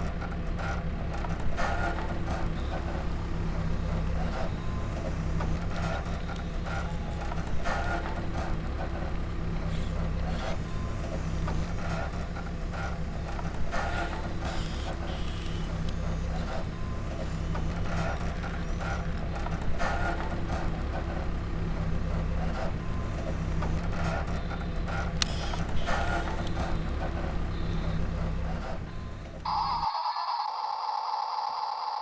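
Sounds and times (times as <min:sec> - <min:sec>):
electric motors whirring: 0:01.4 - 0:32.0.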